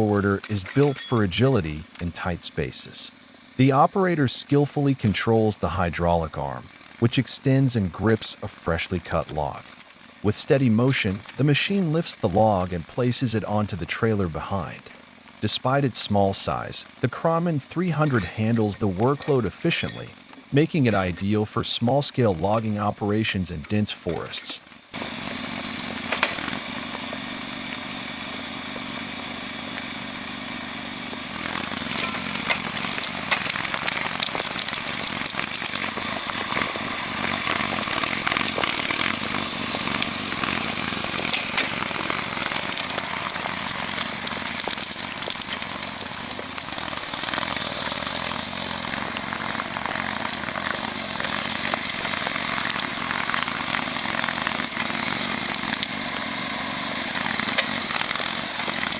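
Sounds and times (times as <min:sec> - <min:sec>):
small machinery running: 0:00.0 - 0:58.9.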